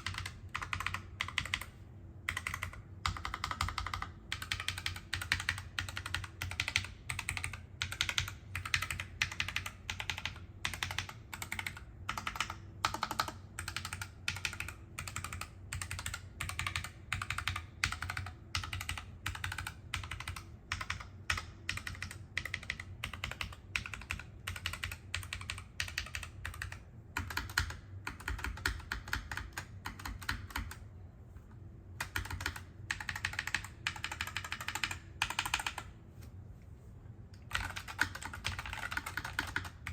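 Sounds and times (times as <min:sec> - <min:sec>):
mechanical keyboard typing: 0:00.0 - 0:30.9, 0:32.0 - 0:35.9, 0:37.4 - 0:39.9.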